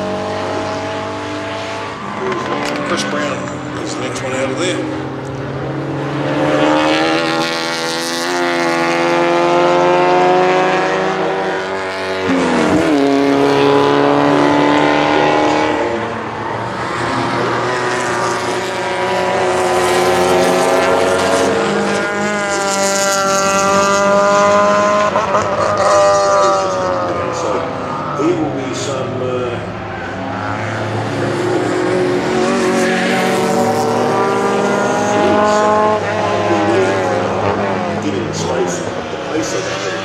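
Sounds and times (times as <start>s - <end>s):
racing car engines at full throttle: 0.0s - 40.0s.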